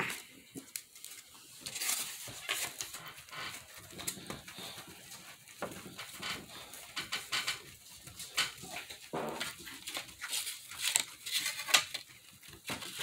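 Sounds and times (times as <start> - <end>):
foil ball crinkling on cardboard: 0.0 - 13.0.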